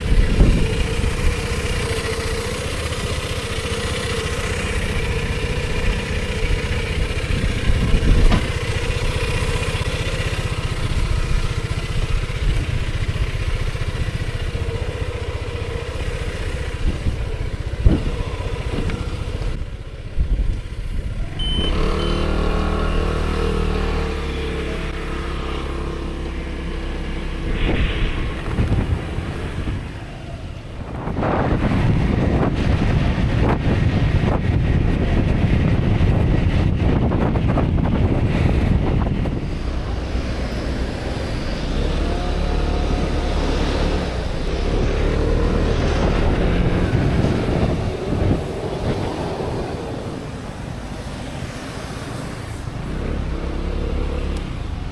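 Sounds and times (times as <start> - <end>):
road noise: 0.0 - 54.9
scooter engine running: 0.0 - 54.9.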